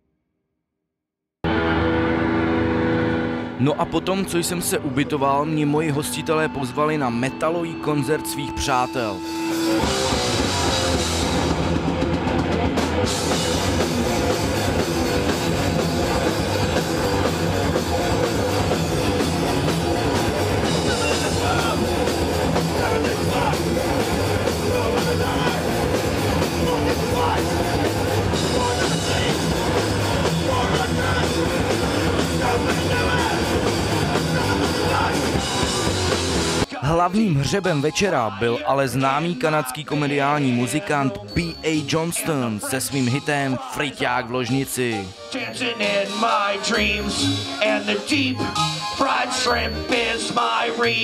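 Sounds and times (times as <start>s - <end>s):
metal band playing: 1.4s - 51.0s.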